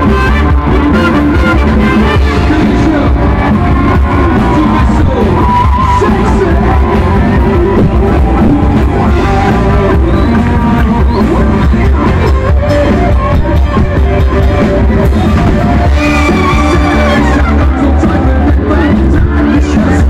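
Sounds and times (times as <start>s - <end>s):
live band playing dance music: 0.0s - 20.0s.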